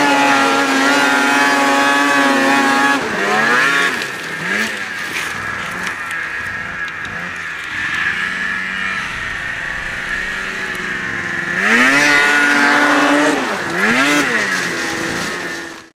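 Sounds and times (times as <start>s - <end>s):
snowmobile engine revving: 0.0s - 15.9s.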